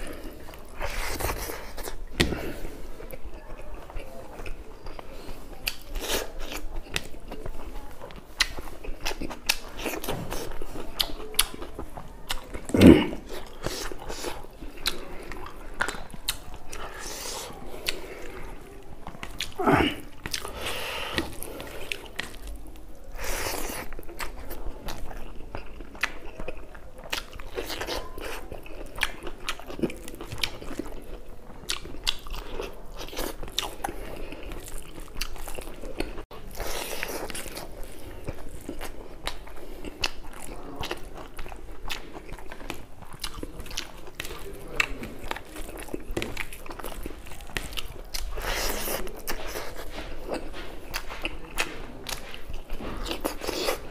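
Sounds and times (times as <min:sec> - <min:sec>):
chewing and biting food: 0:00.0 - 0:53.9.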